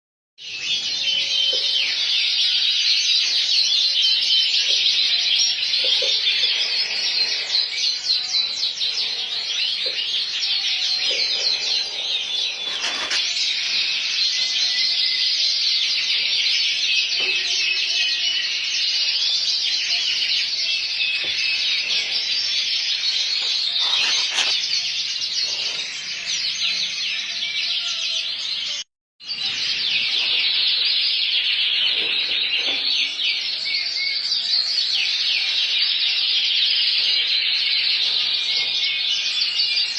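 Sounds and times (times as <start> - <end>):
canary singing trills: 0.4 - 39.9.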